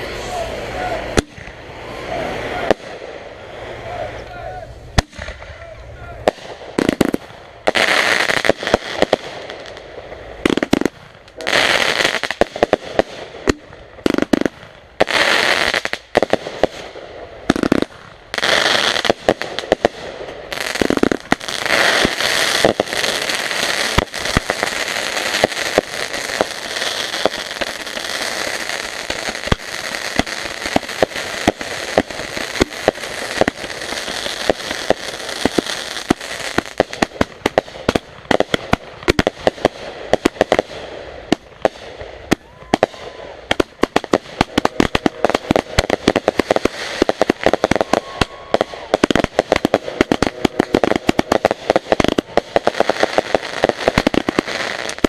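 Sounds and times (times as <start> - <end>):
fireworks banging: 0.0 - 55.0
fireworks crackling: 0.0 - 55.0
fireworks hissing: 0.0 - 55.0.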